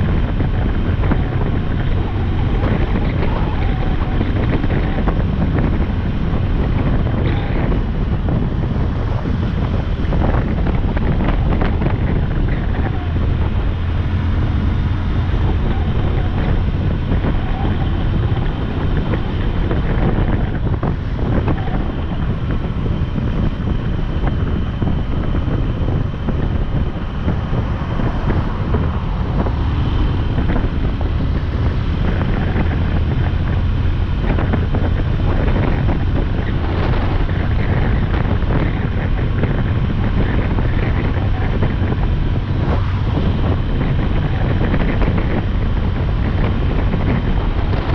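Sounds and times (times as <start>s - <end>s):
motorcycle engine drone: 0.0s - 47.9s
wind buffeting microphone: 0.0s - 47.9s.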